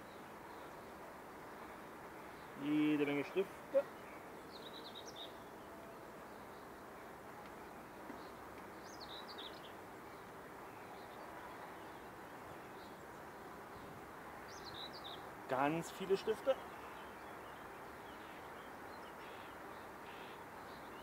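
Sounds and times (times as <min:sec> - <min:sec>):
faint outdoor background noise: 0:00.0 - 0:21.0.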